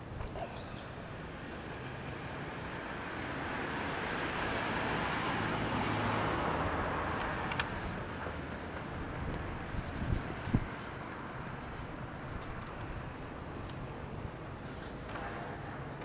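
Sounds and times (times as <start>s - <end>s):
broad rushing noise: 0.0s - 16.0s.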